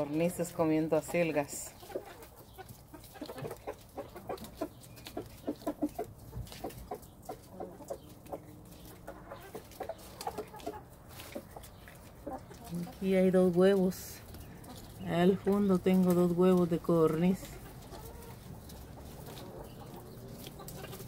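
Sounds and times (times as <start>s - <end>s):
poultry clucking: 0.0s - 21.0s.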